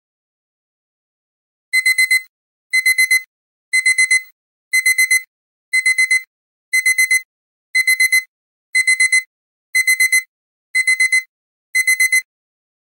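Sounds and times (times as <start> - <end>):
alarm clock beeping: 1.8 - 12.3.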